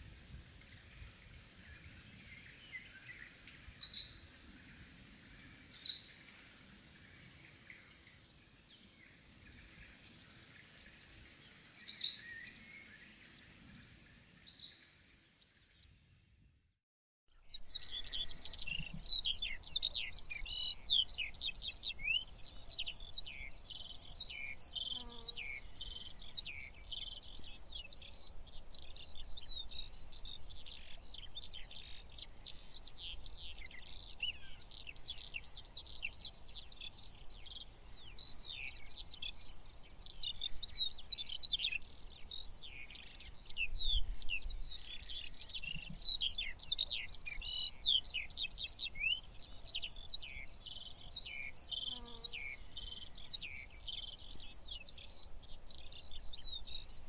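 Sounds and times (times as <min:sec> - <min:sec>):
small birds chirping chorus: 0:00.0 - 0:16.7, 0:17.3 - 0:57.0.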